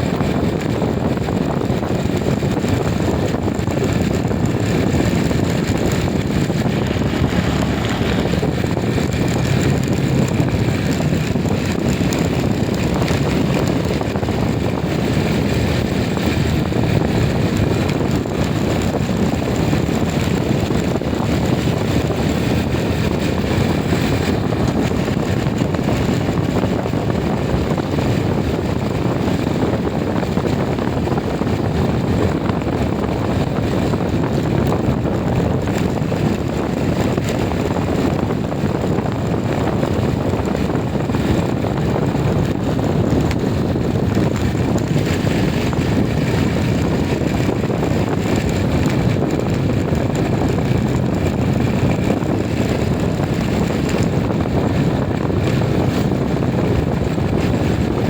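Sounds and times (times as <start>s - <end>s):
moving vehicle rumble: 0.0s - 58.0s
wind buffeting microphone: 0.0s - 58.0s.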